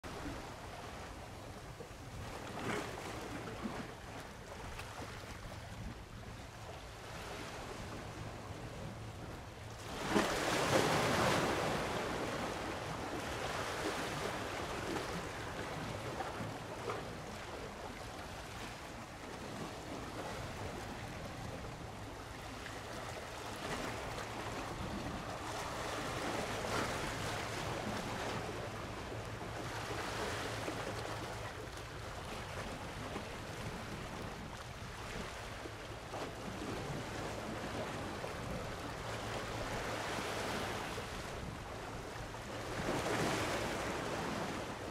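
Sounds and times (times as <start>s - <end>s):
waves washing in: 2.1s - 44.9s.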